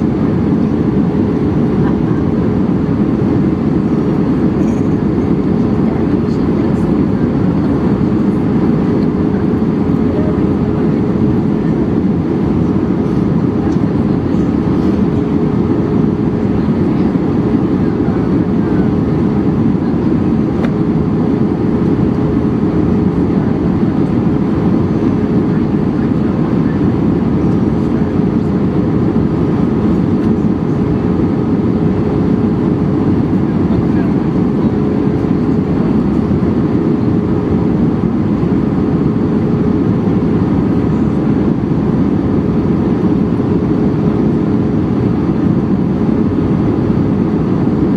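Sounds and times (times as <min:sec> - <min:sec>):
cabin airflow rush: 0:00.0 - 0:47.9
jet engine drone: 0:00.0 - 0:47.9
steady hum: 0:00.0 - 0:47.9.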